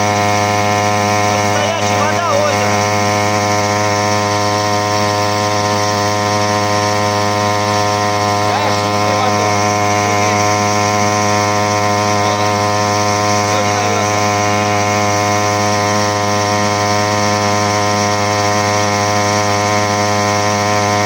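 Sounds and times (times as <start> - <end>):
outboard motor droning: 0.0 - 21.0.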